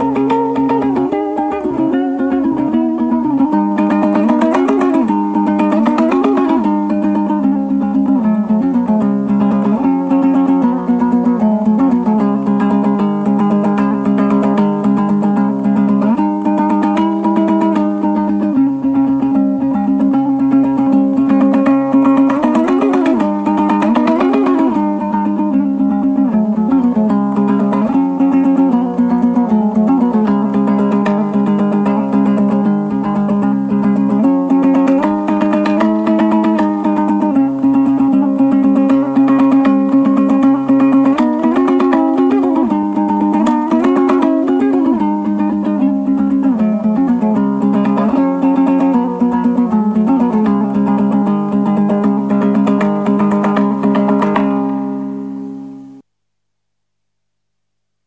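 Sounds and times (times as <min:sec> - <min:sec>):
guitar-led instrumental music: 0:00.0 - 0:56.0.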